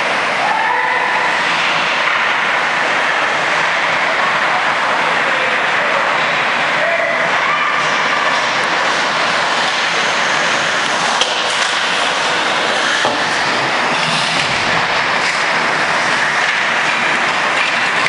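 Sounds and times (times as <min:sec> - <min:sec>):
skates scraping across ice: 0:01.1 - 0:06.5, 0:07.7 - 0:18.0.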